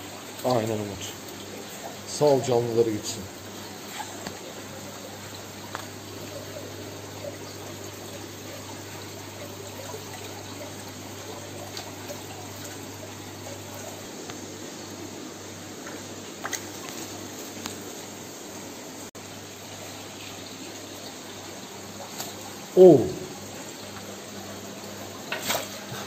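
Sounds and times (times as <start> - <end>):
water trickling: 0.0 - 26.0.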